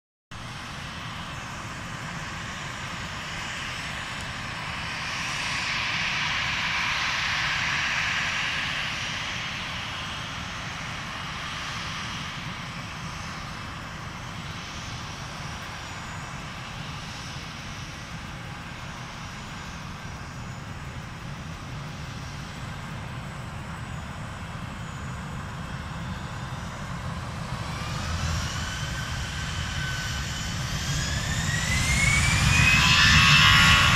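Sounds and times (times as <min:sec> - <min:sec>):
jet engines running: 0:00.4 - 0:33.9
jet engines spooling up whine: 0:00.4 - 0:33.9.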